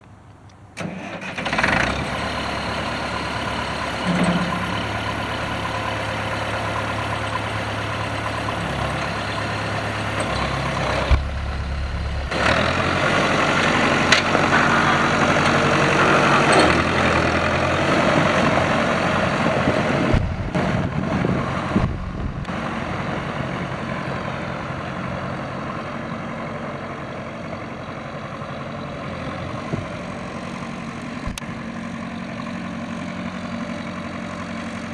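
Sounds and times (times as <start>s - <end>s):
tractor engine idling: 0.8s - 34.9s.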